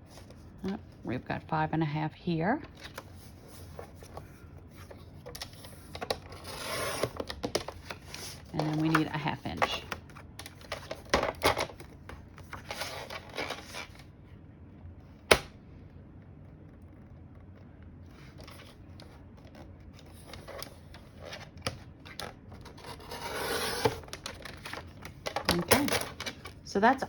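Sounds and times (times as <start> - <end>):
paper rustling: 2.7 - 14.0, 16.6 - 27.0.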